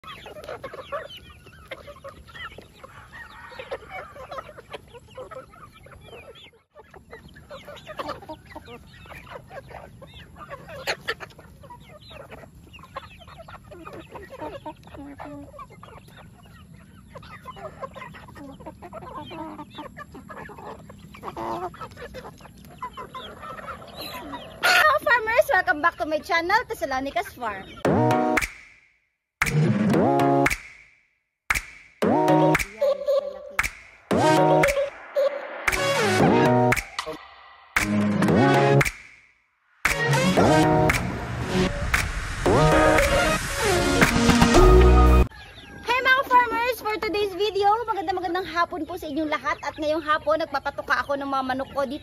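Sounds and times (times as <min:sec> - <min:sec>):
chickens clucking: 0:00.0 - 0:28.6, 0:31.5 - 0:39.0, 0:39.8 - 0:52.0.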